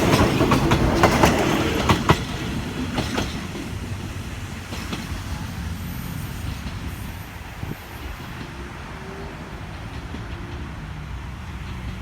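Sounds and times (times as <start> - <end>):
diesel railcars rumbling on track: 0.0 - 12.0.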